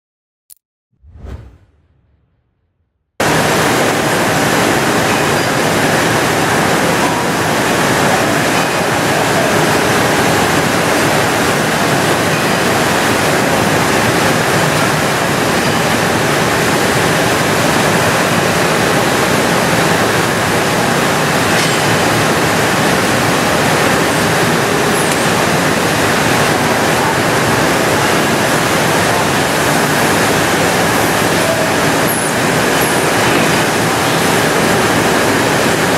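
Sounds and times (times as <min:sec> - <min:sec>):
lathe running with rushing noise: 0:03.2 - 0:35.9.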